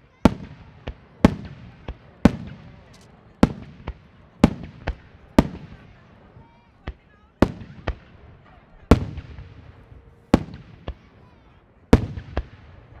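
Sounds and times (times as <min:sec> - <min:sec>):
fireworks bursting with echoes: 0:00.0 - 0:13.0.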